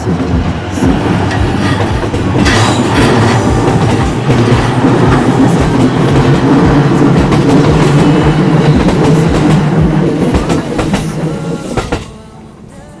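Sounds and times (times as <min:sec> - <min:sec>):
train rumble: 0:00.0 - 0:13.0
train wheels clacking: 0:00.0 - 0:13.0.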